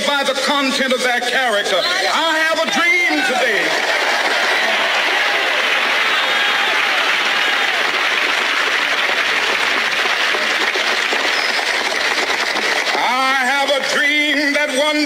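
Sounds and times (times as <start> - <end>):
crowd cheering and shouting: 1.5 - 15.0
crowd clapping: 2.6 - 14.9.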